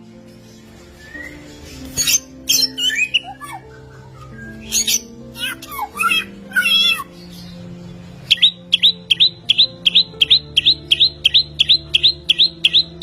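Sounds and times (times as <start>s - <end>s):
songbird rising chirps: 0.0s - 13.0s.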